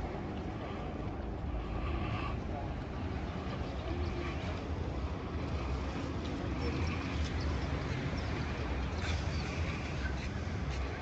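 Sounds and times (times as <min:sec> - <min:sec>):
faint voices of passers-by: 0:00.0 - 0:11.0
wind rumble on microphone: 0:00.0 - 0:11.0.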